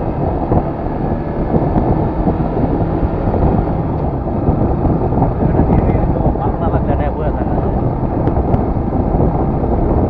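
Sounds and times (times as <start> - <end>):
motorcycle engine hum: 0.0 - 10.0
wind buffeting on microphone: 0.0 - 10.0.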